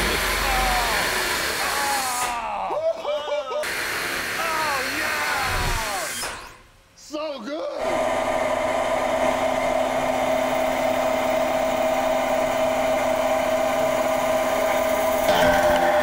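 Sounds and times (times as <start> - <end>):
machine cutting whine: 0.0 - 2.3, 3.6 - 6.6, 7.8 - 16.0.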